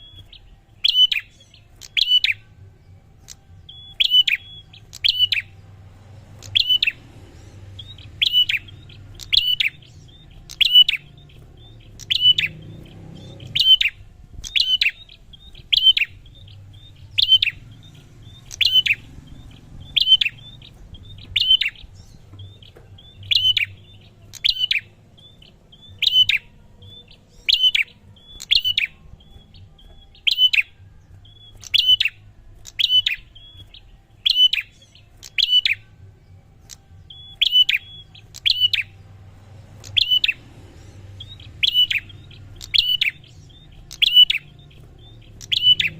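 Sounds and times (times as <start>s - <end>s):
bird chirping: 0.0s - 45.9s.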